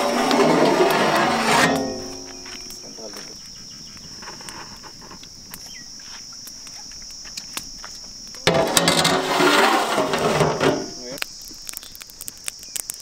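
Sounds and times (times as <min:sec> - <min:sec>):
high-pitched insect chirring: 0:00.0 - 0:08.7, 0:10.8 - 0:13.0.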